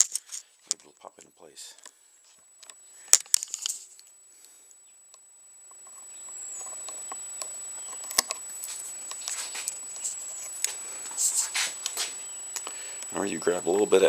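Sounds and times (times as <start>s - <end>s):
faint high whine: 0.0s - 14.0s
steady hiss: 0.0s - 14.0s.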